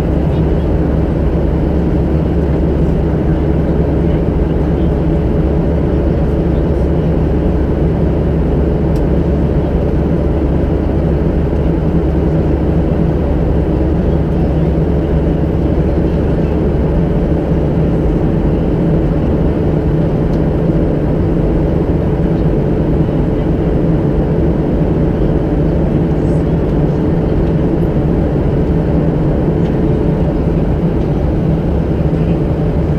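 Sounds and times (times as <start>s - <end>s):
jet engine drone in cabin: 0.0s - 32.9s.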